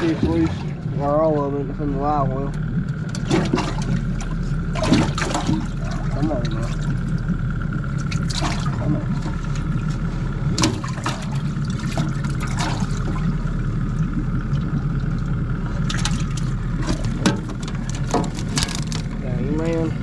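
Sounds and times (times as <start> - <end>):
steady mechanical hum: 0.0 - 20.0
water sloshing and splashing: 0.0 - 20.0.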